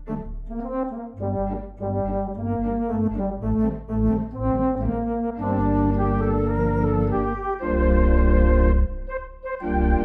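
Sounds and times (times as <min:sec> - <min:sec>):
steady low bass line: 0:00.0 - 0:10.0.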